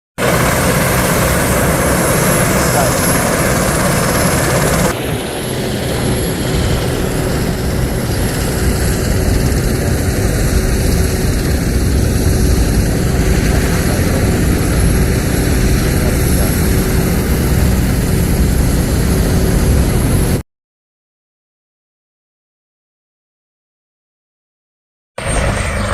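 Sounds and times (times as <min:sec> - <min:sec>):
helicopter rotor and engine: 0:00.2 - 0:20.4, 0:25.2 - 0:25.9.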